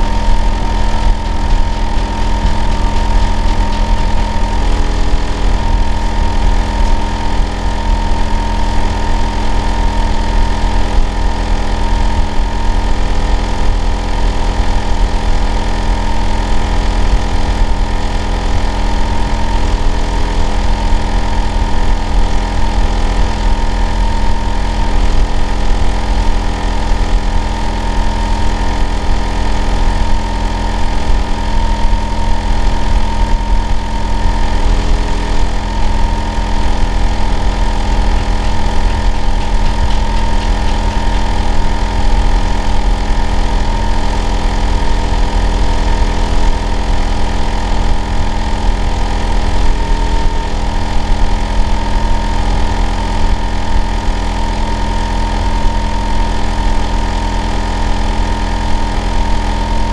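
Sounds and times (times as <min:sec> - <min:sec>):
air conditioner unit humming: 0:00.0 - 0:59.9.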